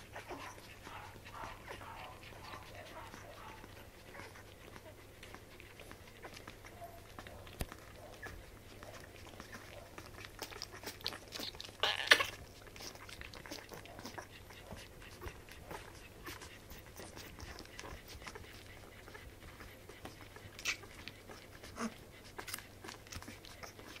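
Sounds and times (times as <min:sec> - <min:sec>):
puppies suckling: 0:00.0 - 0:24.0.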